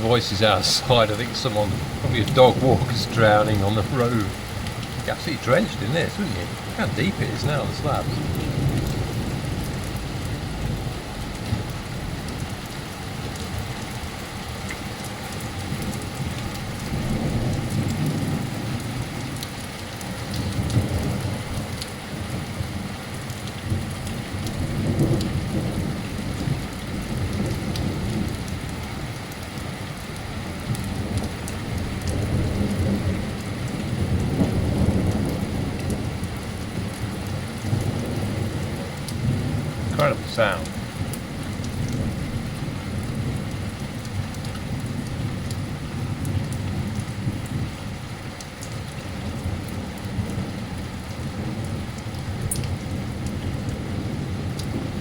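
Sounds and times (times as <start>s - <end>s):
thunder rumbling: 0.0s - 14.1s, 15.6s - 48.2s
heavy rain splashing on paving: 0.0s - 55.0s.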